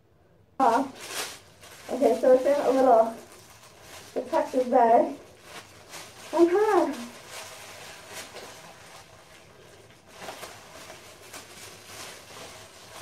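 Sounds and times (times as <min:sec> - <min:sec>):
plastic bag crinkling: 0:00.6 - 0:13.0.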